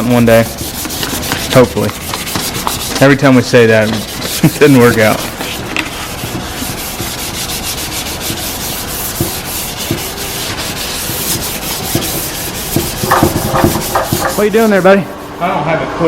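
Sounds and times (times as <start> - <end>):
sandpaper rubbing back and forth: 0.0 - 15.6.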